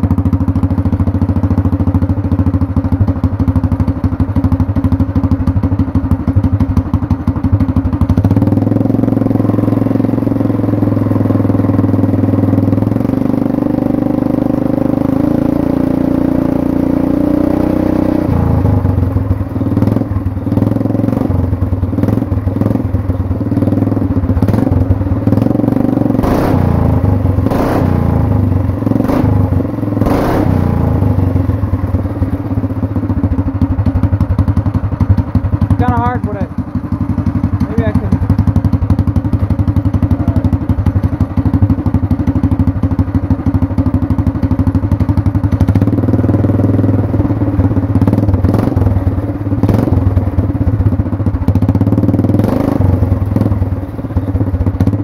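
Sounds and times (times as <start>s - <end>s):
go-kart engine running loud: 0.0s - 55.0s.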